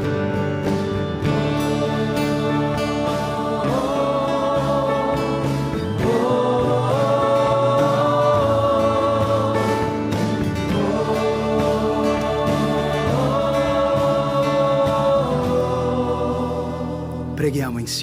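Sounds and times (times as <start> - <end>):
choir singing a slow hymn: 0.0 - 17.4
low accompaniment: 0.0 - 17.8.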